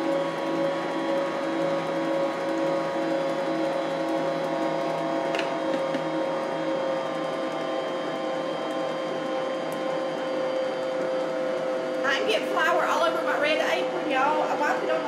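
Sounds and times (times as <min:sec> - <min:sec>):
electric mixer whining: 0:00.0 - 0:15.0.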